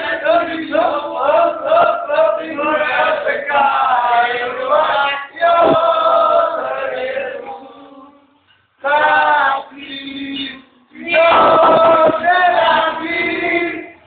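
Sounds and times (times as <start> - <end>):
boys chanting and singing: 0.0 - 14.0.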